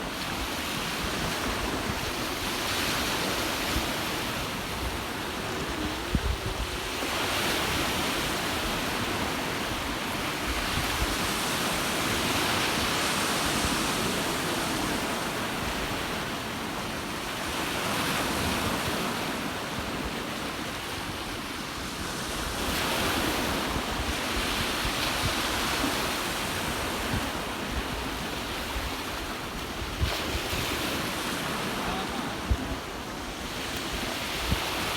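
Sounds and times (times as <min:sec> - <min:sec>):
wind buffeting microphone: 0:00.0 - 0:16.3, 0:20.5 - 0:34.9
ocean surf washing ashore: 0:00.0 - 0:34.9.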